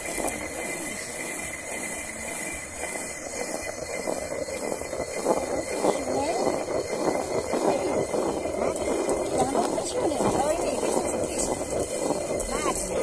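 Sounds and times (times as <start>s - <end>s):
hand millstone grinding: 0.0s - 13.0s.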